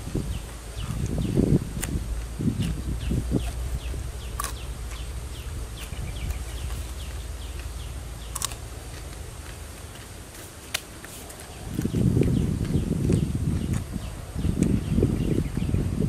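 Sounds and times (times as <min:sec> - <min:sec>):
birds chirping: 0:00.0 - 0:16.0
low steady rumble: 0:00.0 - 0:16.0.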